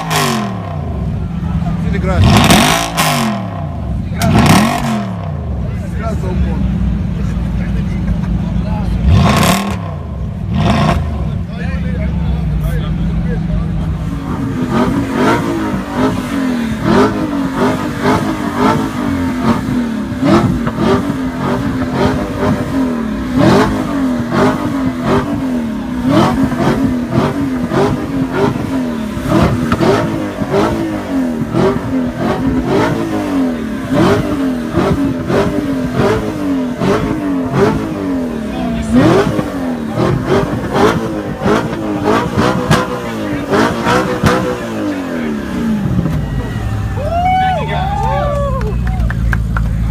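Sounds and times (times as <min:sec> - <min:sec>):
car engines revving: 0:00.0 - 0:49.9.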